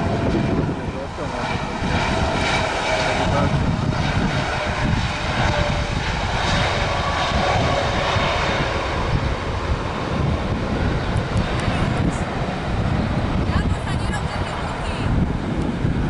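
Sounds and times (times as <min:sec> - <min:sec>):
airliner engines roaring: 0:00.0 - 0:16.0
wind buffeting microphone: 0:00.0 - 0:16.0.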